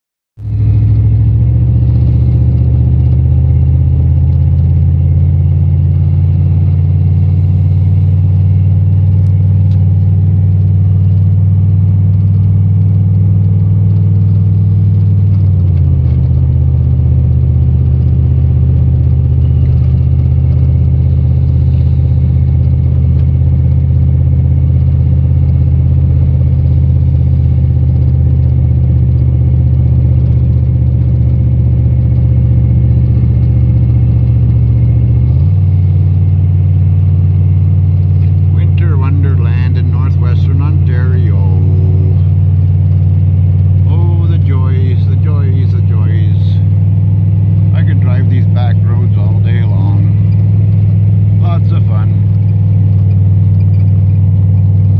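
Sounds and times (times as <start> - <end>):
vehicle engine and tyre drone: 0.4 - 54.9.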